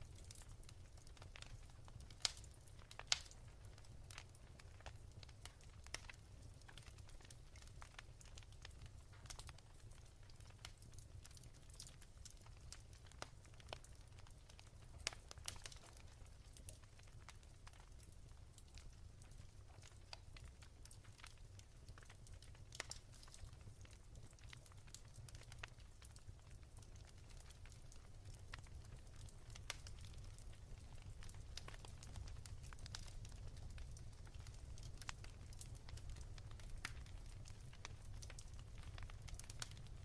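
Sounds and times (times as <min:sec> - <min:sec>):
fire crackling and popping: 0:00.0 - 0:40.0
fire low rumble: 0:00.0 - 0:40.0.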